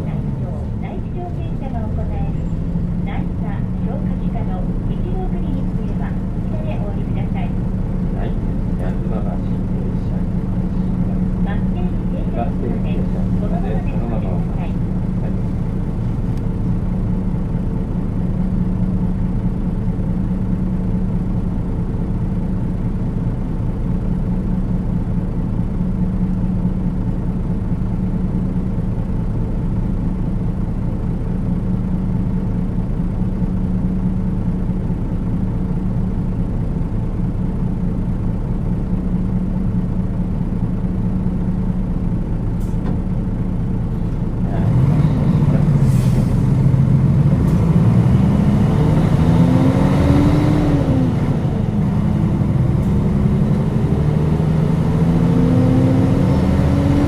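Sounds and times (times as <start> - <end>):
bus diesel engine humming: 0.0 - 57.0.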